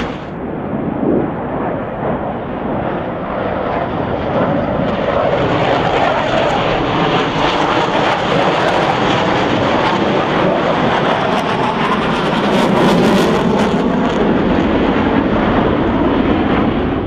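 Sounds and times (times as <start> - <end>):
jet engines passing low overhead: 0.0 - 17.0.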